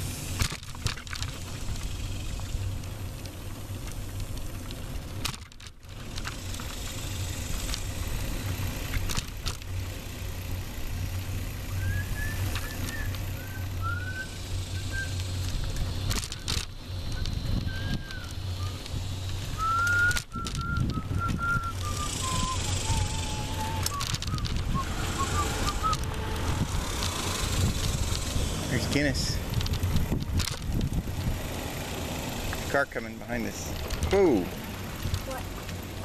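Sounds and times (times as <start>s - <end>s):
wind and road noise: 0.0s - 36.0s.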